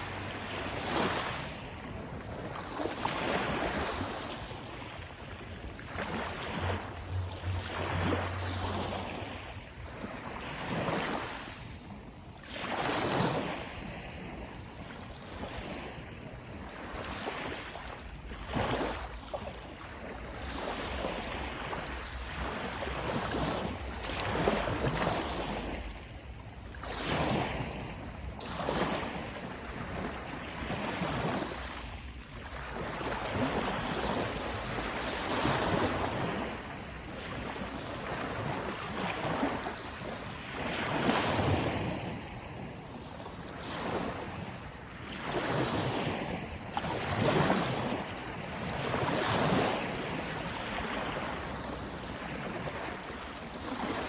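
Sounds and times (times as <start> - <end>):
sea waves breaking: 0.0 - 54.0
wind: 0.0 - 54.0.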